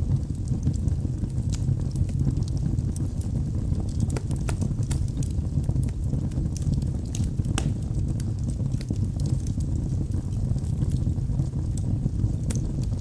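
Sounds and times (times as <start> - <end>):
logs burning in fireplace crackling: 0.0 - 13.0.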